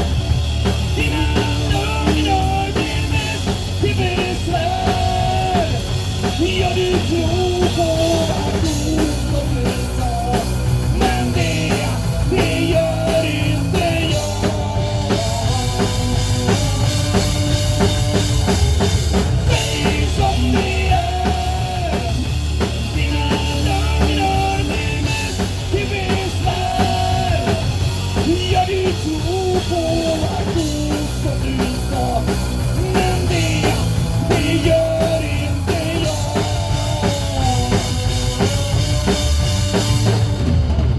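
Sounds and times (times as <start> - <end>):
drum kit beat: 0.0 - 40.9
rock band playing: 0.0 - 40.9.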